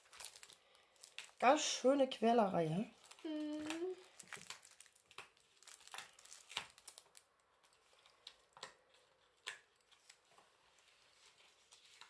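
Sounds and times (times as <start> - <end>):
paper crinkling: 0.0 - 1.5, 2.9 - 12.0.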